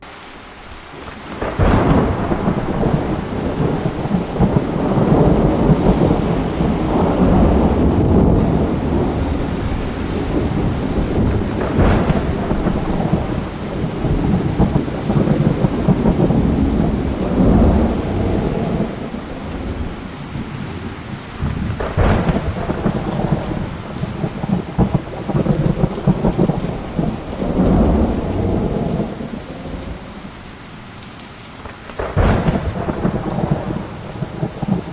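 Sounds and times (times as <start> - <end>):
steady rain: 0.0 - 34.9
rolling thunder rumbles: 1.2 - 30.5, 31.6 - 34.9
sharp thunder cracks: 1.3 - 30.0, 31.6 - 34.9.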